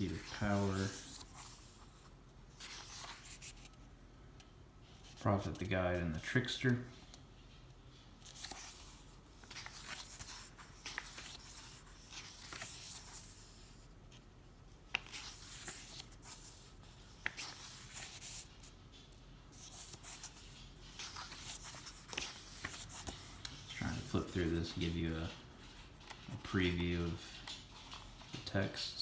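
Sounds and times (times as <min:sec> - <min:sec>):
book pages rustling: 0:00.0 - 0:03.9, 0:04.8 - 0:29.0.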